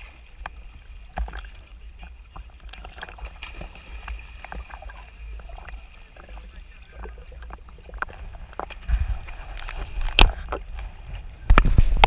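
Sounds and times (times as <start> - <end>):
low underwater rumble: 0.0 - 12.0
underwater clicks and crackles: 0.0 - 12.0.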